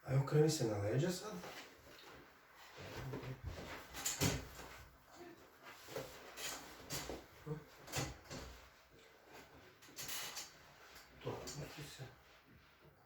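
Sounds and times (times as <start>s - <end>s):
soft knocks and rustles: 1.4s - 13.0s.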